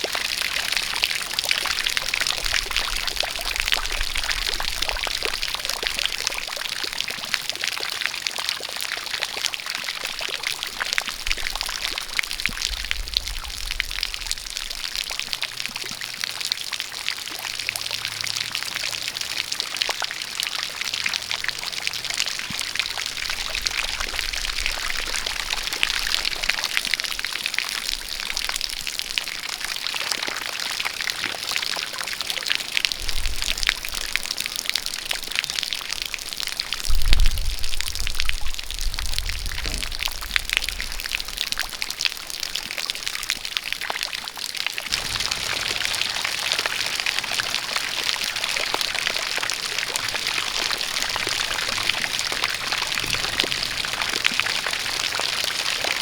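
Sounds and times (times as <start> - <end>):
drips pattering: 0.0 - 56.0
rain falling: 0.0 - 56.0
water jet pouring and splashing: 0.0 - 56.0.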